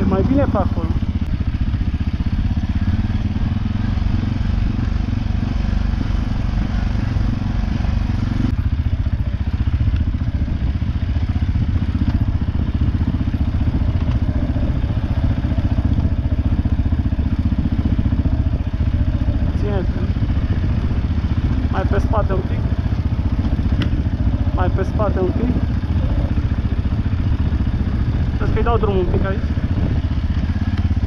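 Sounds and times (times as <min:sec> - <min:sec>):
quad bike engine running: 0:00.0 - 0:31.0.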